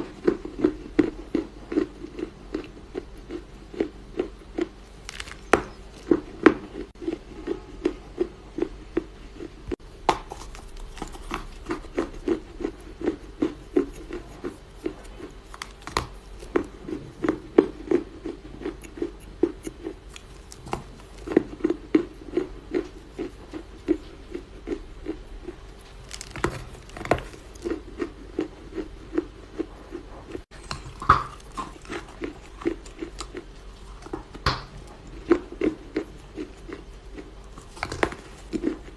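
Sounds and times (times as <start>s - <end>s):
dry clay crunching: 0.2s - 9.1s, 10.0s - 29.7s, 30.5s - 38.9s.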